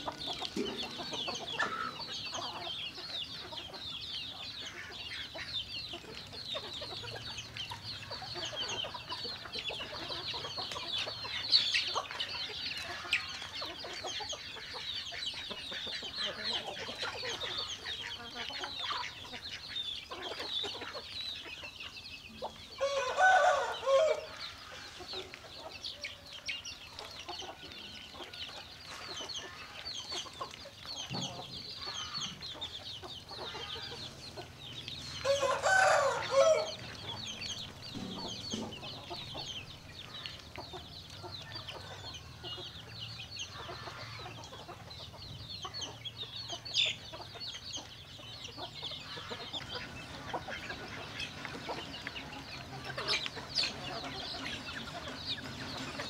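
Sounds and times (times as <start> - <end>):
chickens calling: 0.0 - 56.0.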